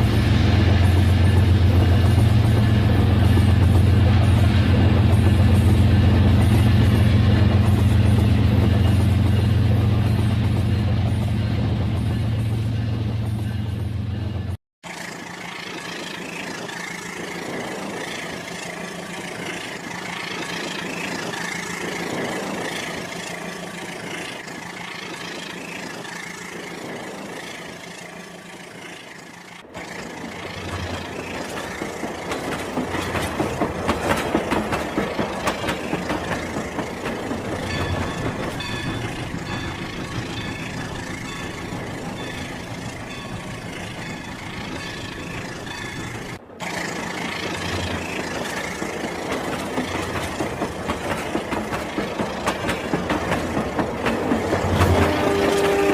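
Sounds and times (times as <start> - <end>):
wheels clattering on track: 0.0 - 55.9.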